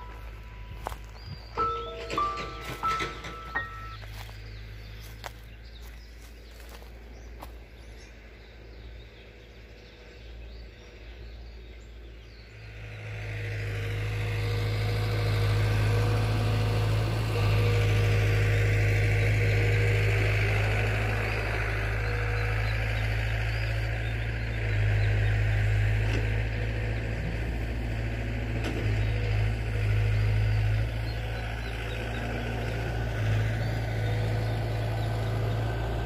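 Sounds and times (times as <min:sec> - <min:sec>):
heavy machine engine droning: 0:00.0 - 0:36.0.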